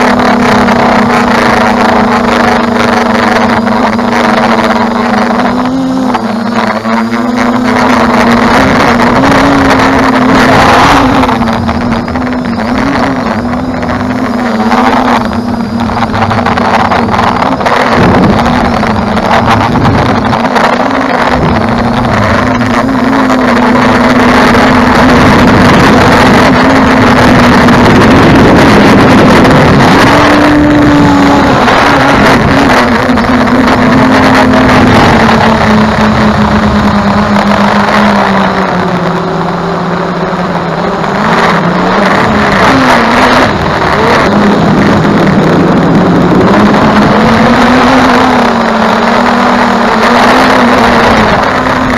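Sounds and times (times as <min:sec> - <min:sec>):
drone motors humming: 0:00.0 - 0:51.9.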